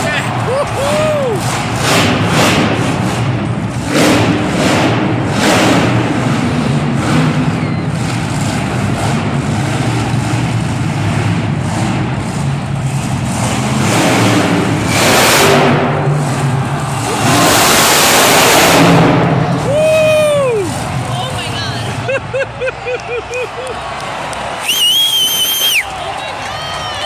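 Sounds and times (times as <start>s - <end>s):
truck engine revving loudly: 0.0s - 22.1s.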